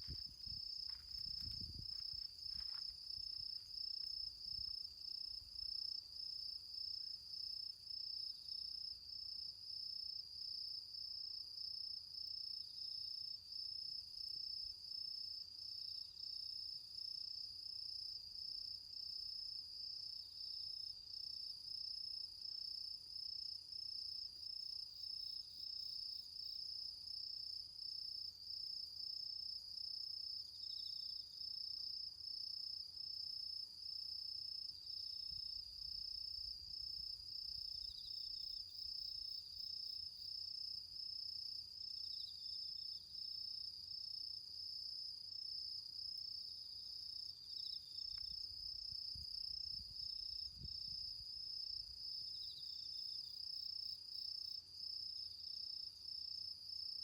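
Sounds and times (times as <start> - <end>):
faint cricket chirping: 0.0 - 57.0.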